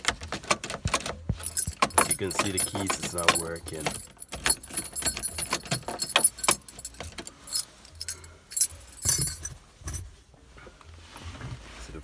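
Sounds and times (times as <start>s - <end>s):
car keys jangling and clicking: 0.0s - 10.0s.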